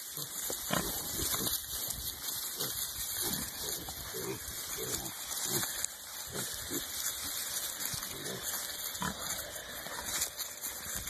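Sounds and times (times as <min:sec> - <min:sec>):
piglets grunting: 0:00.0 - 0:11.0
rustling of dry straw: 0:00.0 - 0:11.0.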